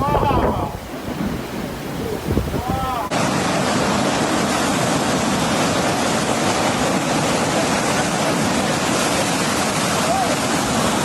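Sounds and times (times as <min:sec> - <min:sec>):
rough seawater rushing: 0:00.0 - 0:11.0.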